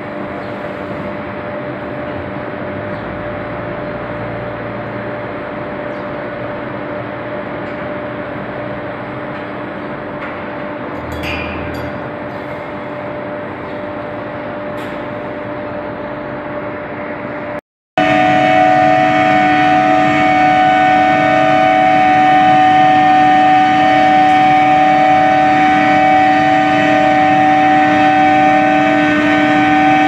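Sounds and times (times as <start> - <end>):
induction furnace electrical hum: 0.0 - 30.0
loud multi-tone whine: 0.0 - 30.0.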